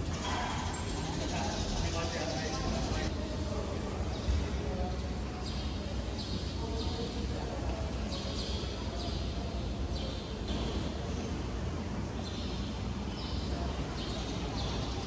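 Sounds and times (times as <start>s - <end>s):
outdoor crowd murmur: 0.0s - 15.0s.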